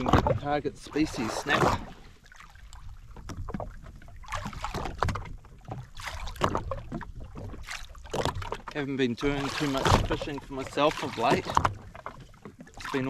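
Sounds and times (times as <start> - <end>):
water slapping against a hull: 0.0 - 13.0.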